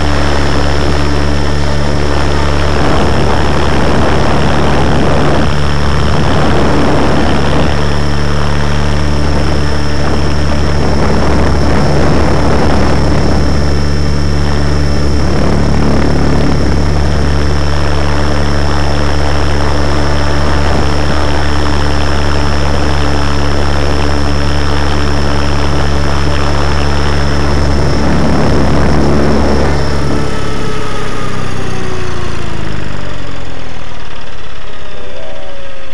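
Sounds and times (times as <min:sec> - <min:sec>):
helicopter motor and rotor drone: 0:00.0 - 0:35.9
high motor whine: 0:00.0 - 0:35.9.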